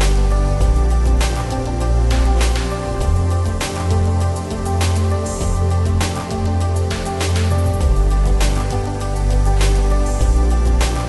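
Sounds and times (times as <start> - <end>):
background music with held chords: 0.0 - 11.0.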